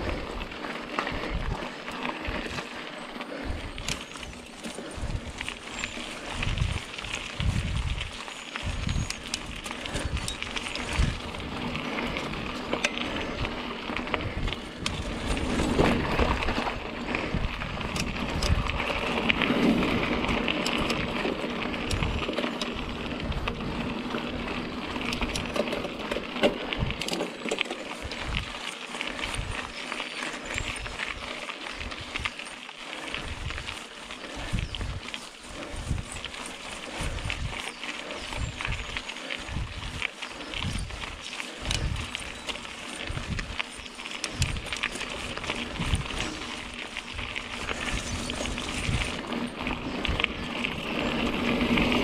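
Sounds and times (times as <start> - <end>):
bike rattling over rough ground: 0.0 - 52.0
bike tyres on dirt trail: 0.0 - 52.0.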